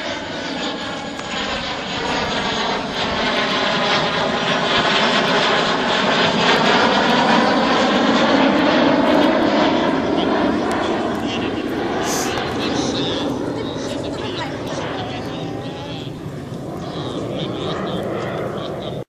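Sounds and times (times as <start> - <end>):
jet engines whining overhead: 0.0 - 19.0.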